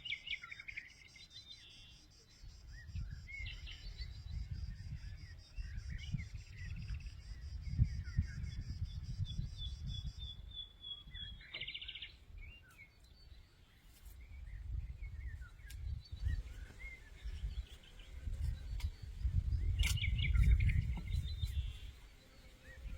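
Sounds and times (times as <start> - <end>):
small birds chirping and trilling: 0.0 - 22.9.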